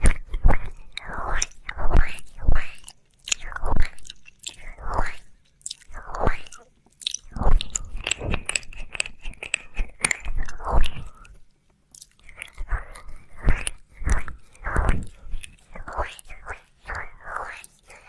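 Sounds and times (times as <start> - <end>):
tongue licks and lip smacks: 0.0 - 18.0.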